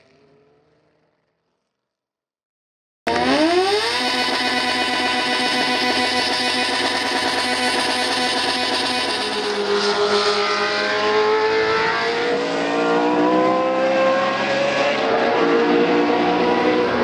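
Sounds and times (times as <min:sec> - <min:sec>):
racing engine revving: 0:03.1 - 0:17.0.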